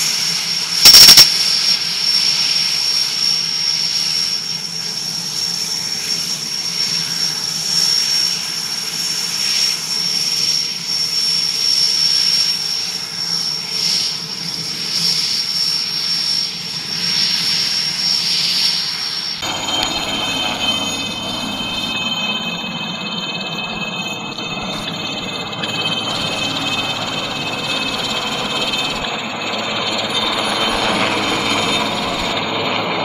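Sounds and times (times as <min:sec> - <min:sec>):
helicopter engine and rotor noise: 0:00.0 - 0:33.0
helicopter turbine whine: 0:00.0 - 0:33.0.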